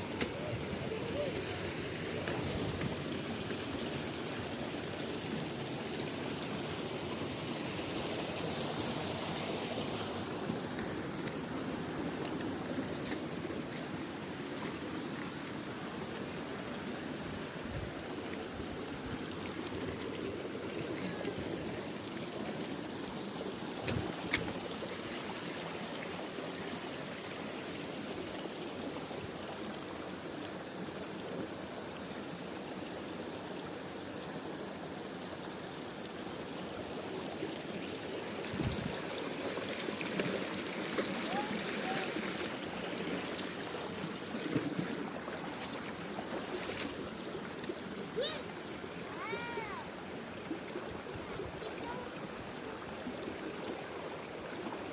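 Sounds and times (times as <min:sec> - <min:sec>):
waterfall and stream running: 0:00.0 - 0:54.9.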